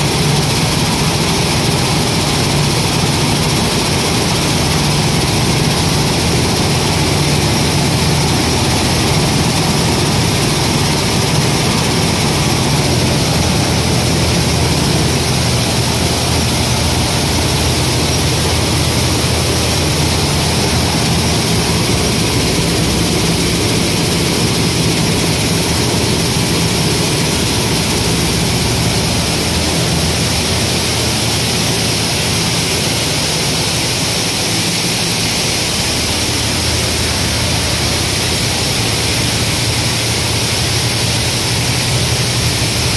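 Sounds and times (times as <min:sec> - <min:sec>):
machine humming: 0:00.0 - 0:42.9.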